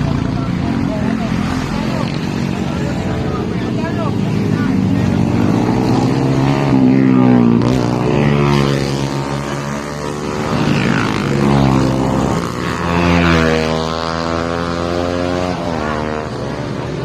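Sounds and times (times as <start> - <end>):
motorcycle engine revving: 0.0 - 17.0
road and wind noise: 0.0 - 17.0.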